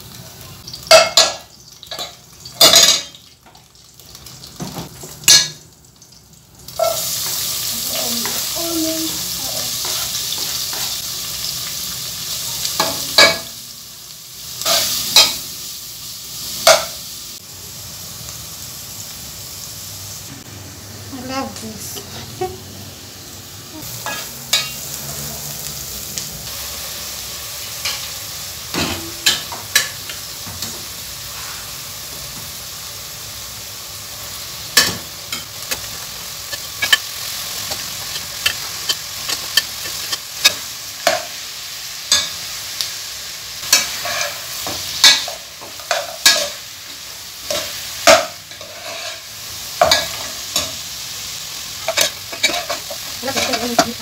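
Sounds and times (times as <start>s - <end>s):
meat and onions sizzling: 0.0s - 54.0s.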